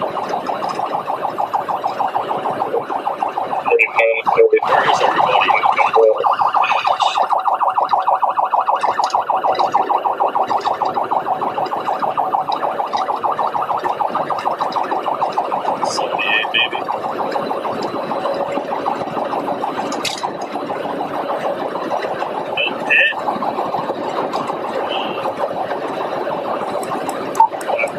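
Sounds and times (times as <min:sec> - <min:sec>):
police siren yelping: 0:00.0 - 0:27.9.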